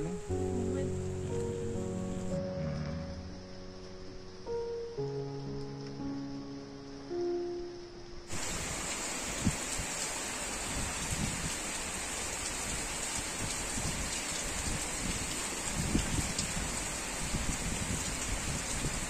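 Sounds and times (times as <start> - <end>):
heavy rain falling: 0.0 - 4.7, 8.3 - 19.0.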